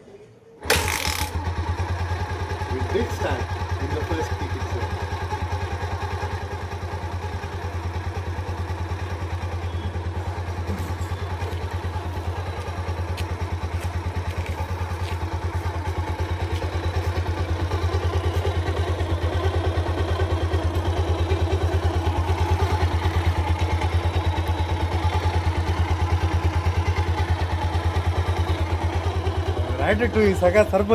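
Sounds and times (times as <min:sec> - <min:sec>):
motorcycle engine idling: 0:00.6 - 0:30.9.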